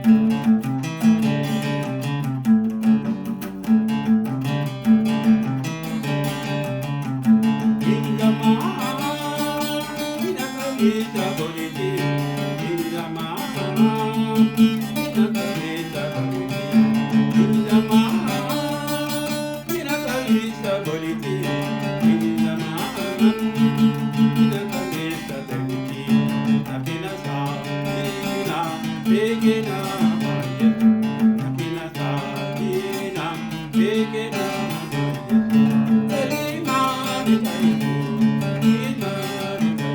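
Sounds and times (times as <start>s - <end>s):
acoustic guitar song: 0.0s - 39.9s.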